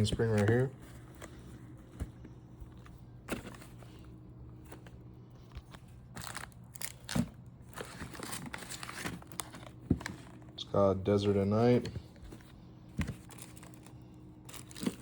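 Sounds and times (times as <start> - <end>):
wrapping rustling: 0.0 - 10.6, 11.5 - 15.0
faint steady hum: 0.0 - 15.0.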